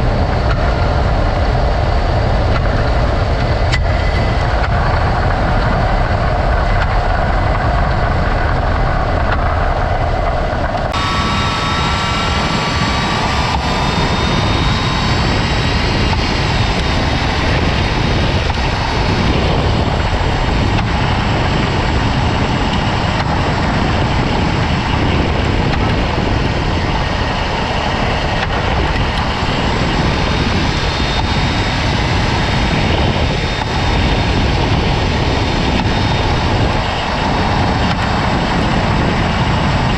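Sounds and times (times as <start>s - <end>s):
car running and road noise: 0.0s - 39.9s.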